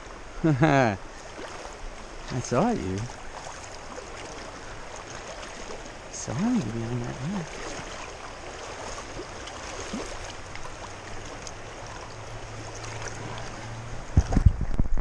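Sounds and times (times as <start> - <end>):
water rushing over rocks: 0.9 - 15.0.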